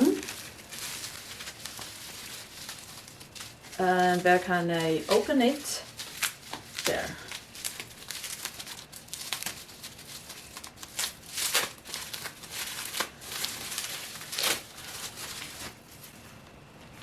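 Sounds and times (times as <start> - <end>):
packaging crinkling and tearing: 0.0 - 16.2.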